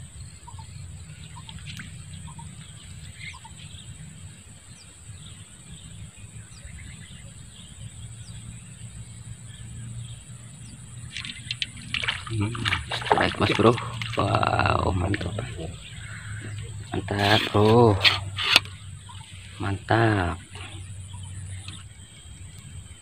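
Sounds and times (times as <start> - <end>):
birds chirping faintly: 0.0 - 23.0
low rumble: 0.0 - 23.0.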